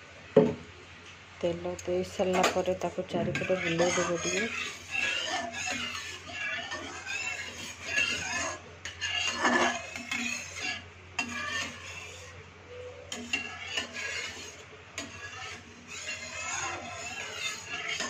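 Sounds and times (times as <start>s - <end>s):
metal spatula scraping a wok: 2.4s - 12.4s, 13.1s - 18.0s.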